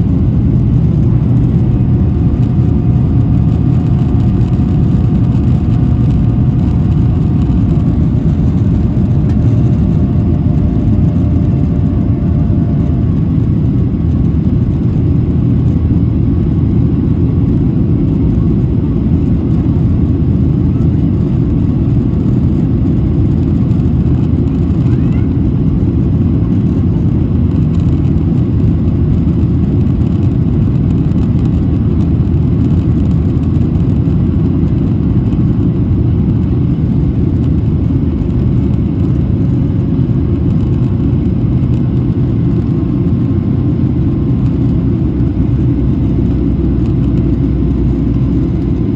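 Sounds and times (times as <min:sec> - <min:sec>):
jet engines heard from cabin: 0:00.0 - 0:48.9.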